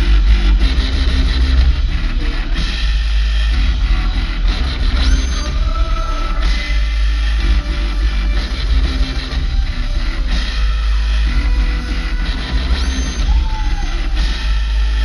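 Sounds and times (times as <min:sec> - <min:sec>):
guitar: 0:00.0 - 0:15.0
heavy booming bass: 0:00.0 - 0:15.0
live rock band playing: 0:00.1 - 0:15.0.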